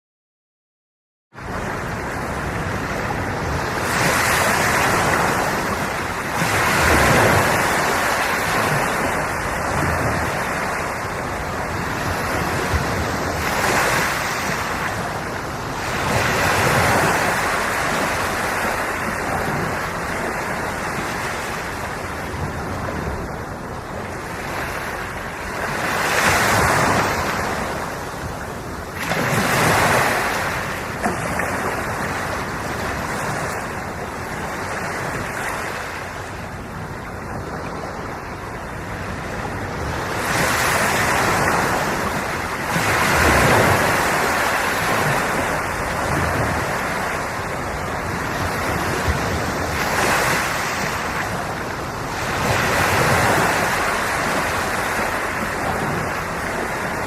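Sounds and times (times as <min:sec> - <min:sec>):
ocean waves washing in: 0:01.4 - 0:57.0.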